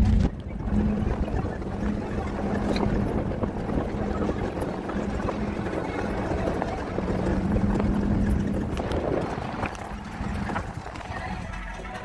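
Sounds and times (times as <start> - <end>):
truck engine drone: 0.0 - 12.0
tyre and road noise: 0.0 - 12.0
wind rushing through window: 0.0 - 12.0.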